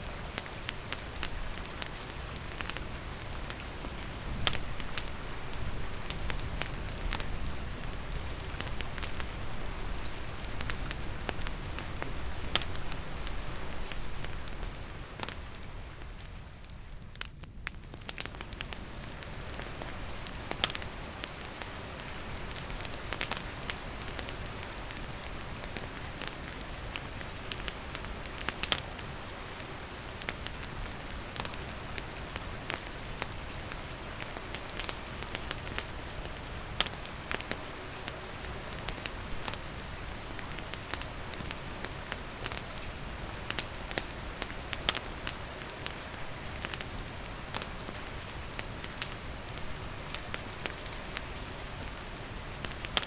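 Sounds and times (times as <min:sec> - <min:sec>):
campfire crackling and popping: 0:00.0 - 0:53.0
steady rain falling: 0:00.0 - 0:53.0.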